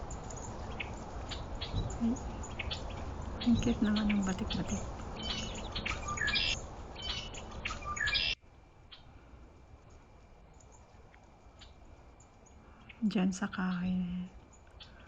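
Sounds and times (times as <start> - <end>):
small birds chirping: 0.0 - 9.2, 9.8 - 15.0.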